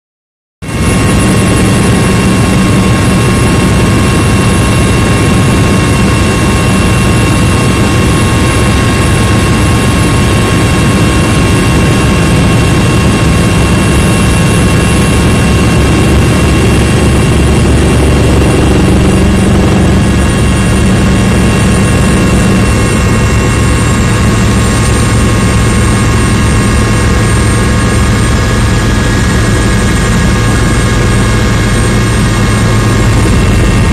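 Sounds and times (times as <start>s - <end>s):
helicopter rotor beat: 0.6s - 33.9s
high engine whine: 0.6s - 33.9s.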